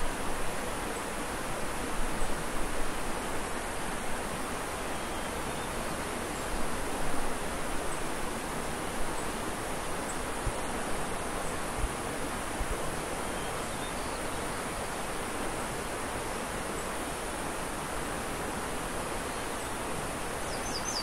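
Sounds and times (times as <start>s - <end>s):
stream rushing over boulders: 0.0s - 21.0s.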